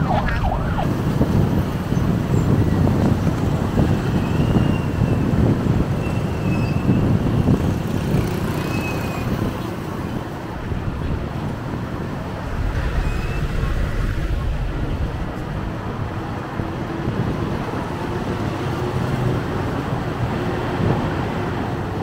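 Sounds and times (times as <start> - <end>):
rumble of passing vehicles: 0.0 - 22.0.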